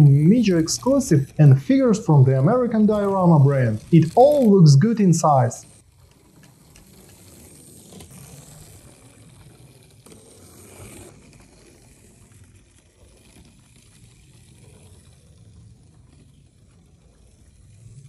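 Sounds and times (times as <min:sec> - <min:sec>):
faint whirring of toy car motors: 0:02.2 - 0:18.0.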